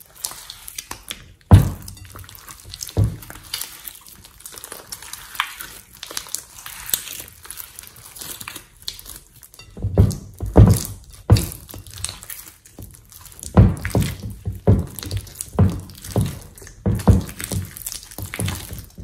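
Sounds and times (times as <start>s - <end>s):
slime crackling and popping: 0.0s - 19.0s
slime squelching: 0.0s - 19.0s.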